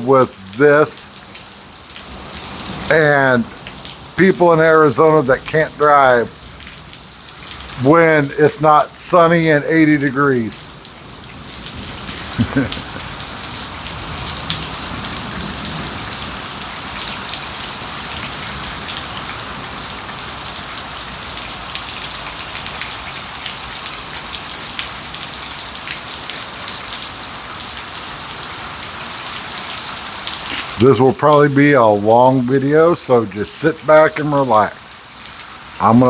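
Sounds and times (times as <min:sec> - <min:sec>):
heavy rain: 0:00.0 - 0:36.0.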